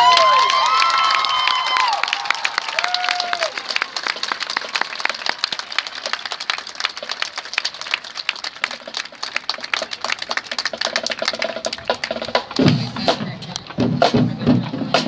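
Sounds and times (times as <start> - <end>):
crowd applauding: 0.0 - 13.1.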